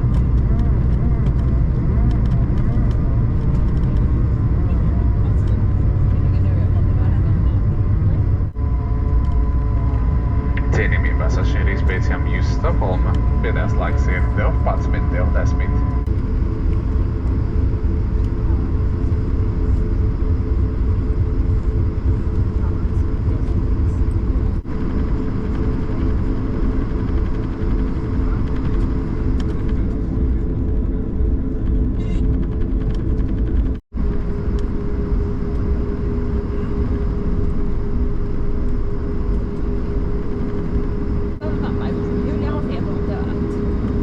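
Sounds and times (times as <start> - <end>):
airliner cabin engine rumble: 0.0 - 44.0
steady hum: 0.0 - 44.0.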